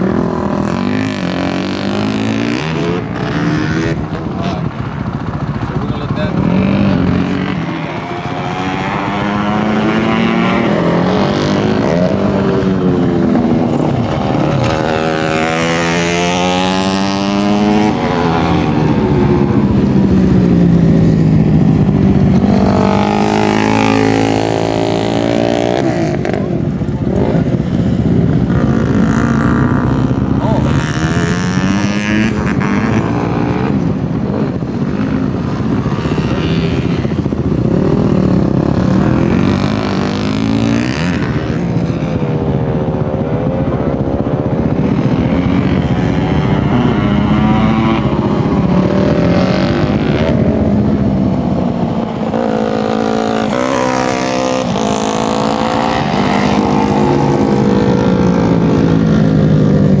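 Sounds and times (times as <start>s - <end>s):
racing motorcycles revving: 0.0s - 60.0s.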